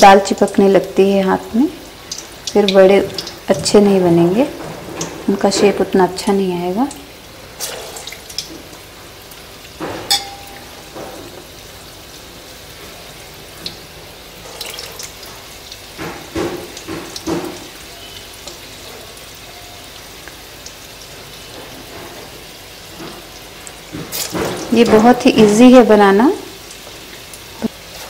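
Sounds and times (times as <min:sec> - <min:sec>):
food frying in hot oil: 0:00.0 - 0:28.0.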